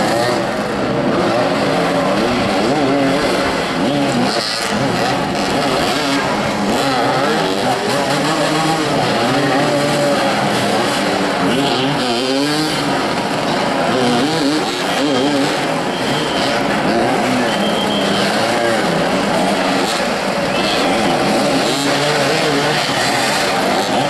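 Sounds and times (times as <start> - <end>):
motorcycles revving: 0.0 - 24.0.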